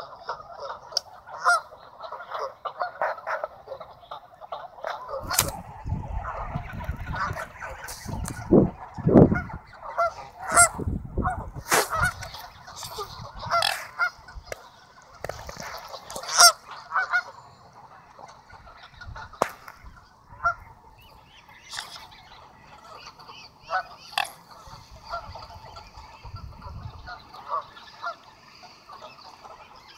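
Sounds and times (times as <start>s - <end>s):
geese honking: 0.0s - 29.9s.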